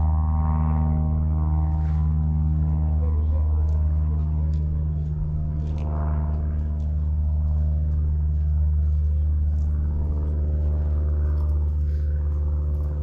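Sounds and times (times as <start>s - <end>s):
engine idling drone: 0.0s - 13.0s.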